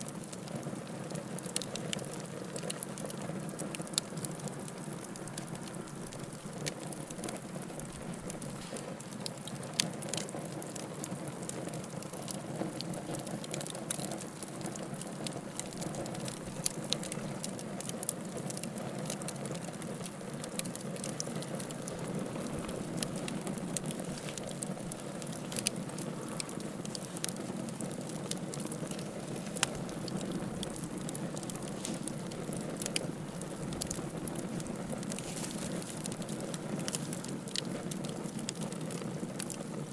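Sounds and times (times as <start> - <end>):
fire crackles and pops: 0.0 - 39.9
firewood burning hiss: 0.0 - 39.9.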